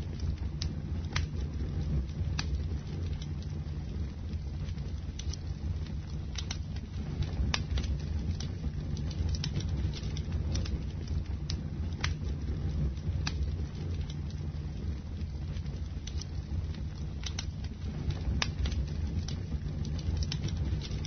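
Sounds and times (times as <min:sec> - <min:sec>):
flames rumbling: 0:00.0 - 0:21.0
wood crackling and popping: 0:00.0 - 0:21.0.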